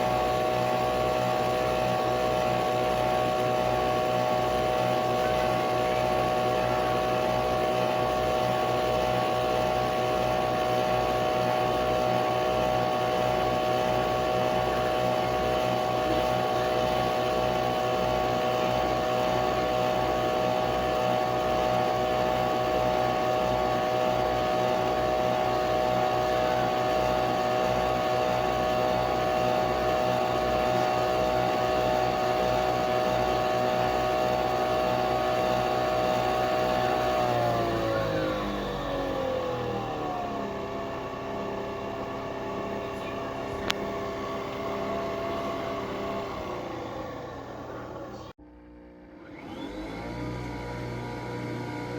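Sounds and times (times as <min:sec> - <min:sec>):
coffee machine brewing: 0:00.0 - 0:48.3, 0:49.1 - 0:51.9.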